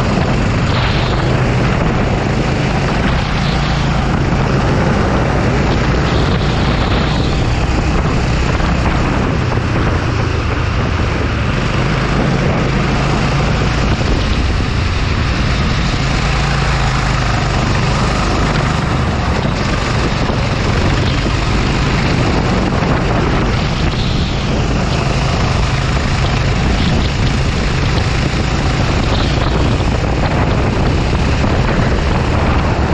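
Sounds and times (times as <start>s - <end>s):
go-kart engine running: 0.0s - 32.9s.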